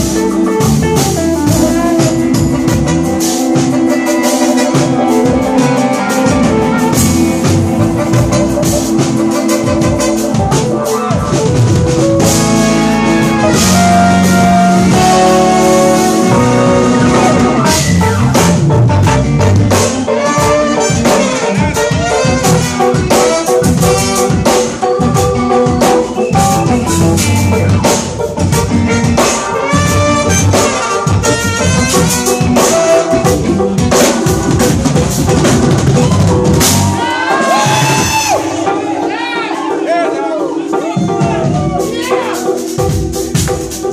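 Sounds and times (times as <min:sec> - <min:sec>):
jazz fusion band playing: 0:00.0 - 0:43.9.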